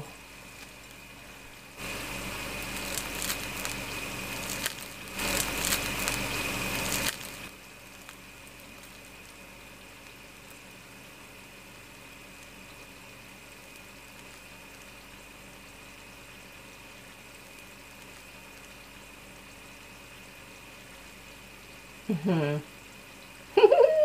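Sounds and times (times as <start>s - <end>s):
crispy crust crackling: 0.2s - 21.8s.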